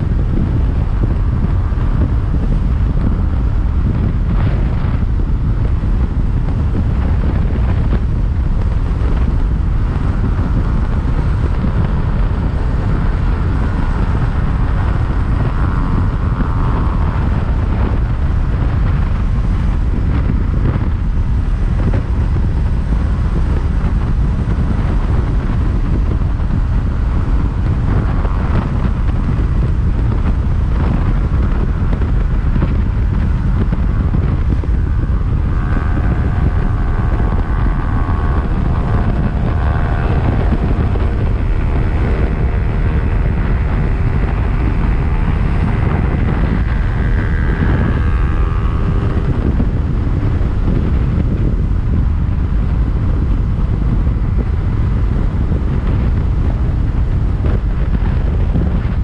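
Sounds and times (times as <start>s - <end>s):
motorcycle engine: 0.0s - 59.0s
wind buffeting microphone: 0.0s - 59.0s.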